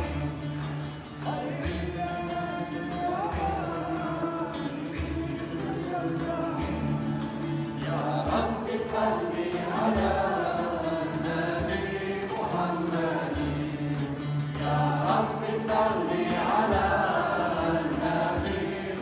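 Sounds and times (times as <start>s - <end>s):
frame drum: 0.0s - 19.0s
string accompaniment: 0.0s - 19.0s
voices chanting a slow melody: 0.0s - 19.0s.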